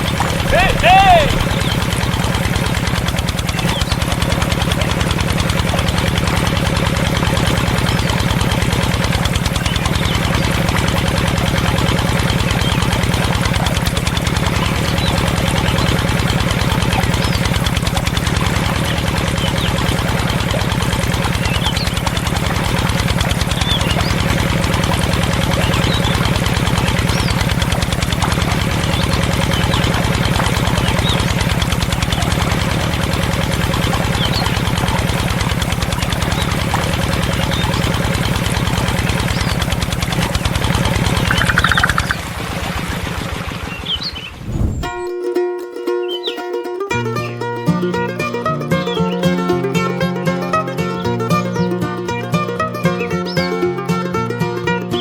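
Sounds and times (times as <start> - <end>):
small pump engine chugging: 0.0 - 55.0.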